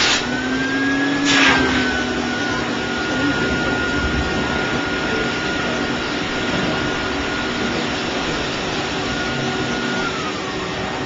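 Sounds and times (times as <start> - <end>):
blow dryer running: 0.0 - 11.0.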